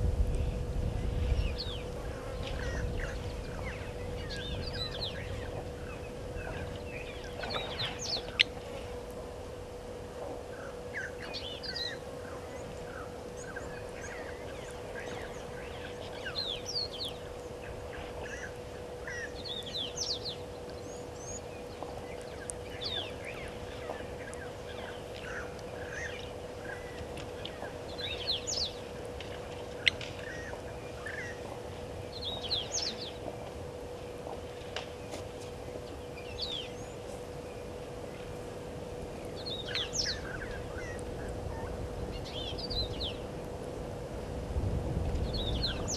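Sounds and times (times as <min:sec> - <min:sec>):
steady low hum: 0:00.0 - 0:45.9
wild birds chirping and whistling: 0:00.3 - 0:09.2, 0:09.8 - 0:43.4, 0:45.2 - 0:45.9.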